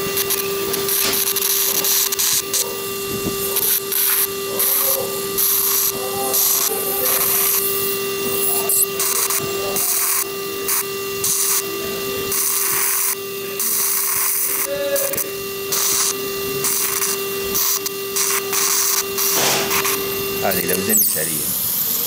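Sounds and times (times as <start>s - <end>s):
electrosurgical instrument hissing: 0.0s - 22.0s.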